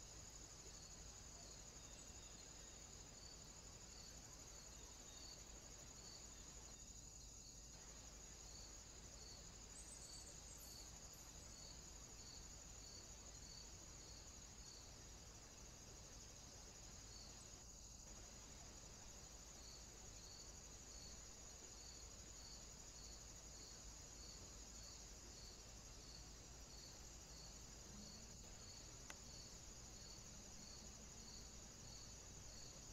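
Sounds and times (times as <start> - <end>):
low hiss: 0.0 - 32.9.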